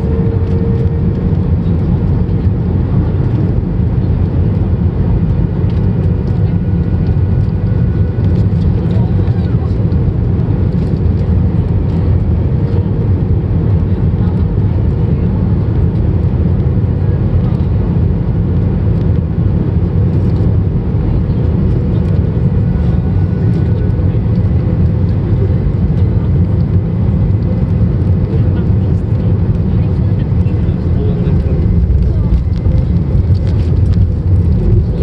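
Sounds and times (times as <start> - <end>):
airliner cabin engine noise: 0.0 - 35.0.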